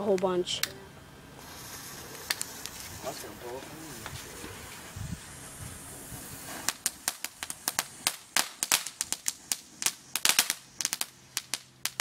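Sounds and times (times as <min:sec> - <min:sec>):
firecrackers cracking: 0:01.4 - 0:12.0.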